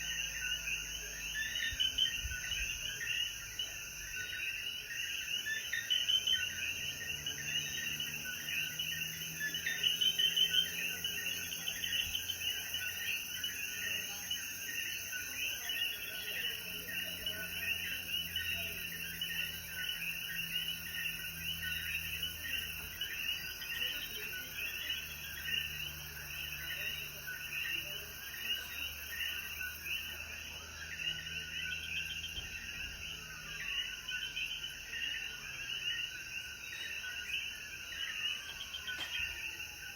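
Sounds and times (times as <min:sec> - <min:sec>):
frogs chorus calling: 0:00.0 - 0:39.9.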